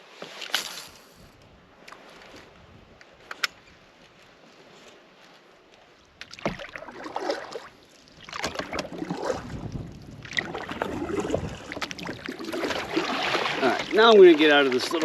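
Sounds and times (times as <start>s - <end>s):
paddle water swishing and dripping: 0.0s - 15.0s.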